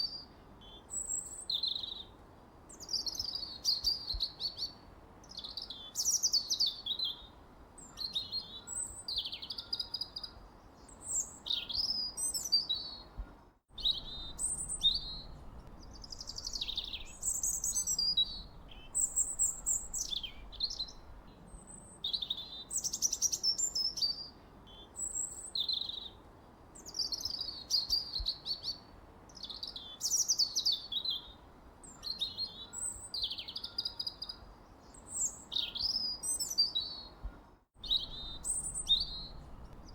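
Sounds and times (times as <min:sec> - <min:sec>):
songbirds chirping and whistling: 0:00.0 - 0:26.2, 0:26.8 - 0:39.9
faint steady hiss: 0:00.0 - 0:32.0, 0:36.3 - 0:39.9.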